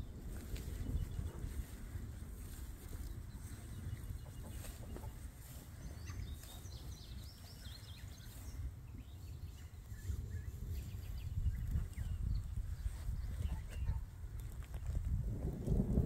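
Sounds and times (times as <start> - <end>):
birds chirping: 0.0 - 15.1
wind on the microphone: 0.0 - 16.0.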